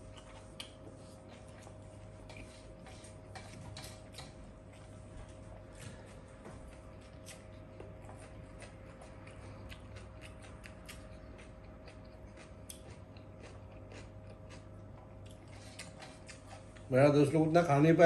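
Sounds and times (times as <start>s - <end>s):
chewing: 0.0s - 5.1s, 6.6s - 16.9s
steady low hum: 0.0s - 18.0s.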